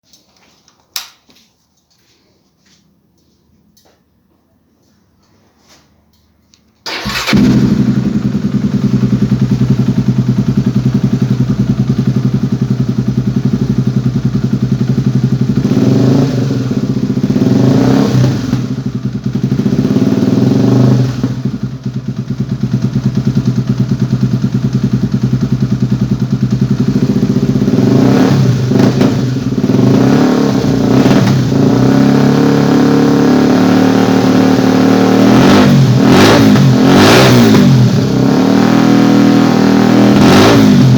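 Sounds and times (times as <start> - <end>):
motorcycle engine revving: 6.9 - 40.9.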